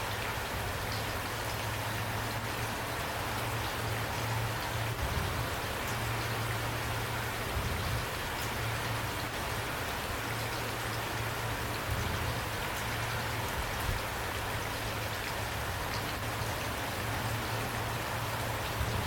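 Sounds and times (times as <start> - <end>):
raindrops ticking on a surface: 0.0 - 19.0
steady rain hiss: 0.0 - 19.0.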